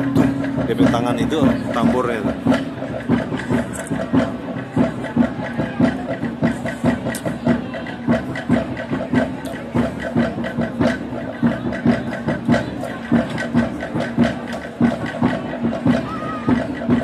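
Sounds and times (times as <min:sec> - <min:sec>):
even drum beat: 0:00.0 - 0:17.0.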